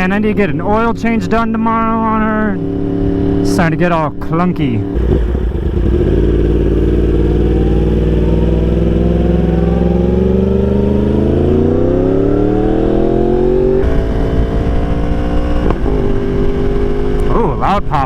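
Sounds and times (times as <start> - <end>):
motorcycle engine revving: 1.8 - 3.8, 4.7 - 17.9.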